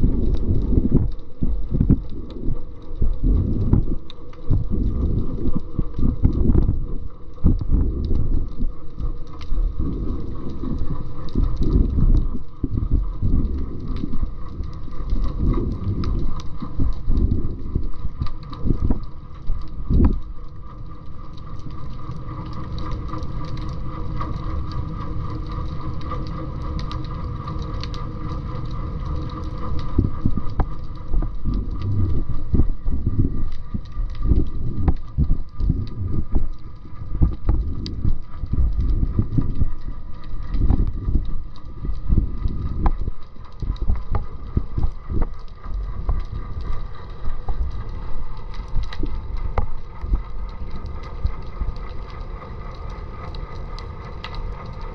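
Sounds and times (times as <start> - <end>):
faint hum: 0.0 - 54.9
underwater thuds and rumble: 0.0 - 54.9.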